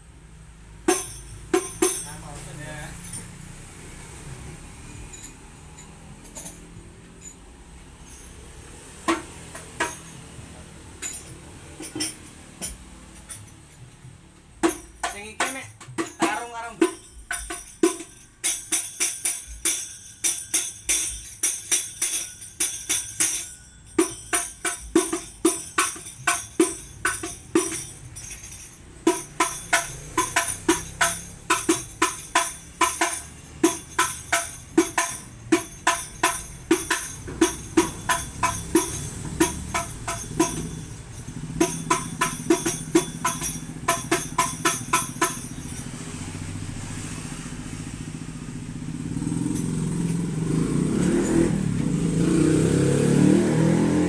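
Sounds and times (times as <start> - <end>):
frame drums with jingles: 0.0 - 54.0.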